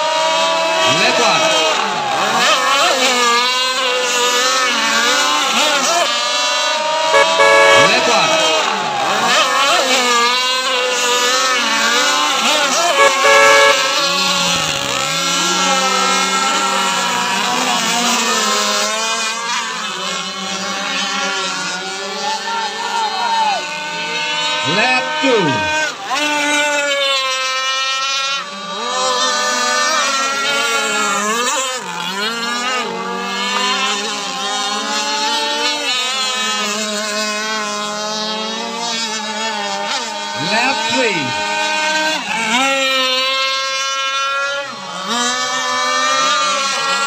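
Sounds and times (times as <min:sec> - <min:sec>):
model powerboat engines droning: 0:00.0 - 0:47.0.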